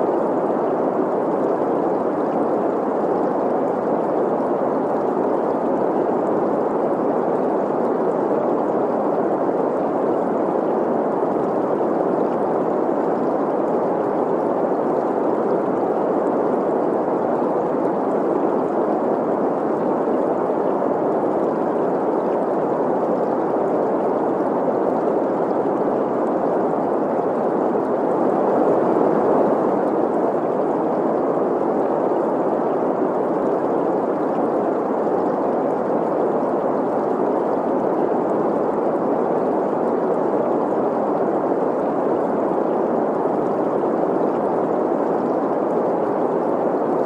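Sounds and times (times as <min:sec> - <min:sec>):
flowing stream: 0:00.0 - 0:47.0
steady green noise hiss: 0:00.0 - 0:47.0.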